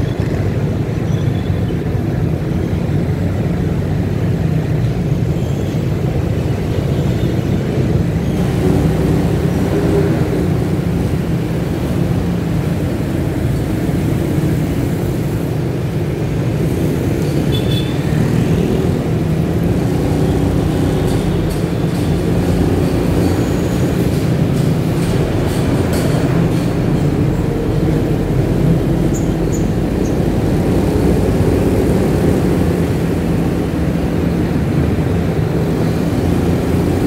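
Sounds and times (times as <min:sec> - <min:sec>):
motorcycle engine humming: 0:00.0 - 0:37.0
traffic rumble: 0:00.0 - 0:37.0.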